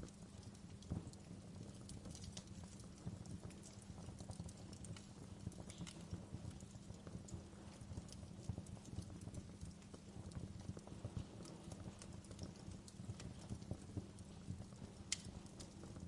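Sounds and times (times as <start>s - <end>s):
burning wood crackling and popping: 0.0s - 16.0s
wood fire rumbling: 0.0s - 16.0s.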